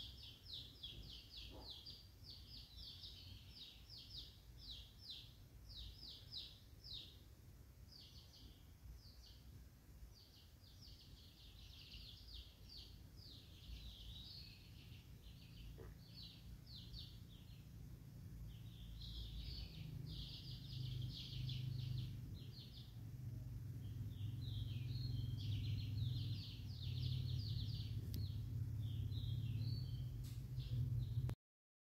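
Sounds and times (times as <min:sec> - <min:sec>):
high-pitched chirping calls: 0:00.0 - 0:07.2, 0:10.2 - 0:31.3
steady low hum: 0:00.0 - 0:31.4.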